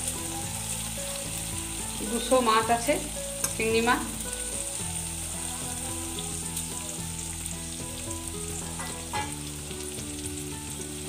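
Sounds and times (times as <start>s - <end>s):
prawns sizzling in hot oil: 0.0s - 11.0s.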